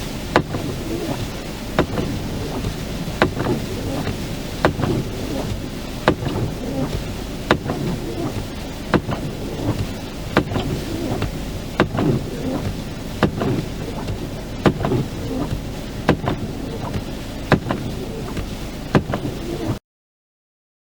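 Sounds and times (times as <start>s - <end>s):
blizzard wind: 0.0s - 19.8s
van engine rumble: 0.0s - 19.8s
windscreen wipers knocking: 0.0s - 19.8s.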